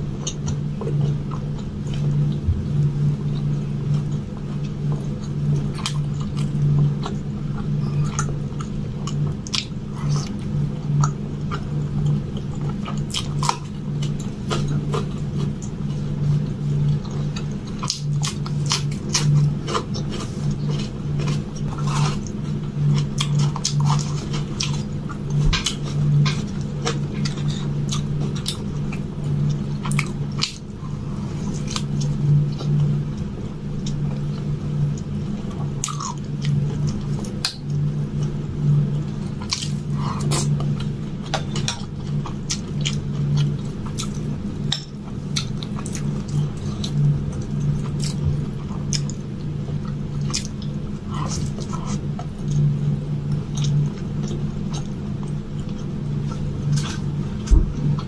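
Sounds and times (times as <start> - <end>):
chewing soft wet food: 0.0 - 58.0.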